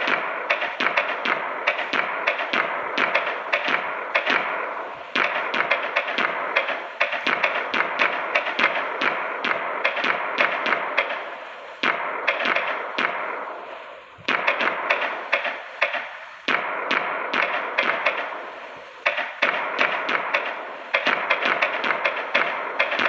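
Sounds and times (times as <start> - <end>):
crackle and hiss: 0.0 - 23.0
firecrackers cracking: 0.0 - 23.0.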